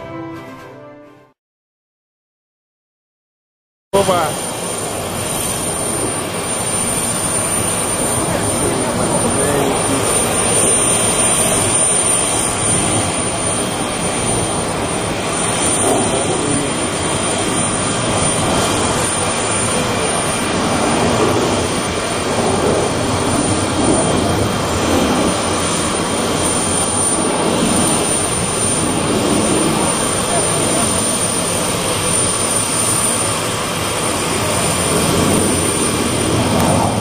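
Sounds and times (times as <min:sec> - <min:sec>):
jet engines running: 0:04.0 - 0:37.0.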